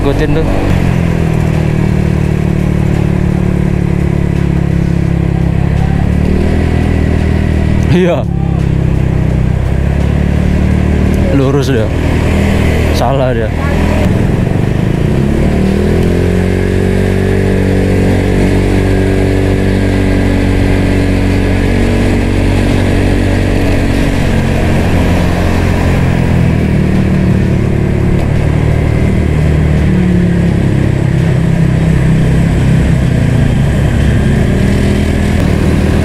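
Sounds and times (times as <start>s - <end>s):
scooter engine exhaust: 0.0s - 36.0s.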